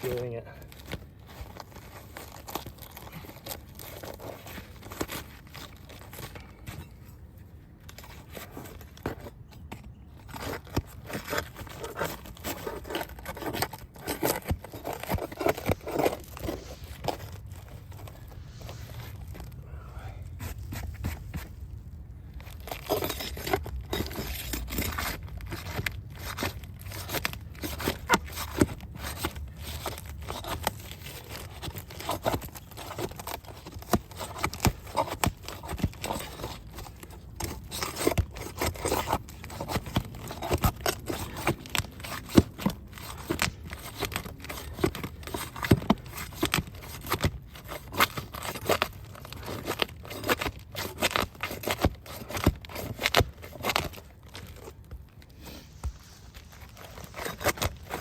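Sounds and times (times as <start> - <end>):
roof shingles tearing: 0.0 - 6.5, 10.2 - 18.4, 22.4 - 54.9.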